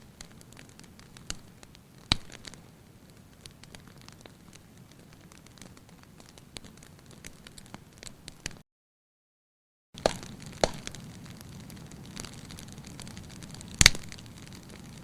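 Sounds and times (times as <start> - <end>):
loud fire pops: 0.0 - 8.6, 10.0 - 15.0
wood fire crackling: 0.0 - 8.6, 10.0 - 15.0.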